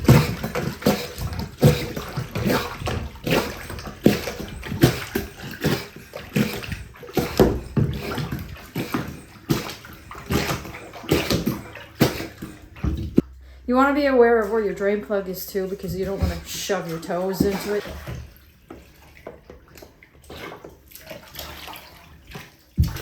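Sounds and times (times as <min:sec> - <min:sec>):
water sloshing under plunger: 0:00.0 - 0:23.0.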